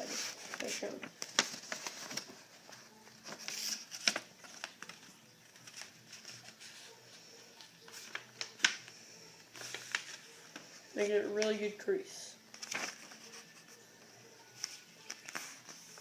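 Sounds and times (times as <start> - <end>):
paper rustling and crinkling: 0.0 - 11.7, 12.4 - 16.0.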